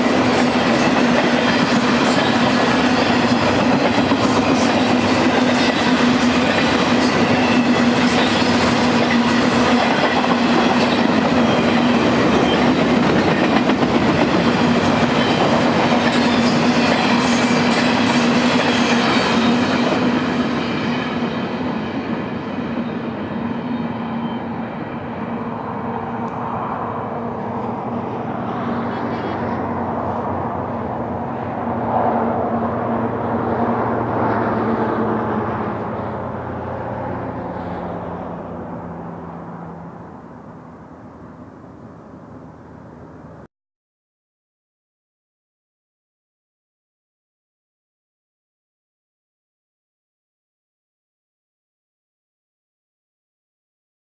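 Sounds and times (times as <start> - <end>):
freight train wheels on rails: 0.0 - 43.4.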